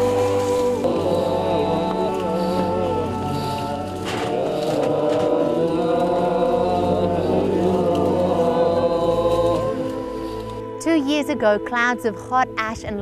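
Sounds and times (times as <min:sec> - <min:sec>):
musical drone: 0:00.0 - 0:13.0
voices chanting: 0:00.0 - 0:13.0.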